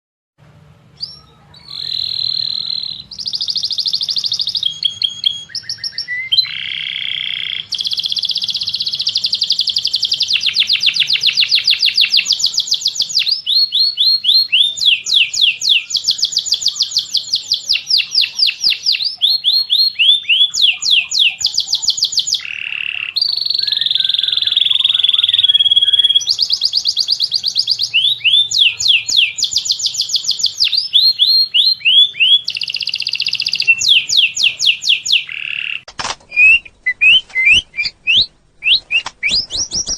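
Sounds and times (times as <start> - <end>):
songbird singing fast trills: 1.0 - 39.9.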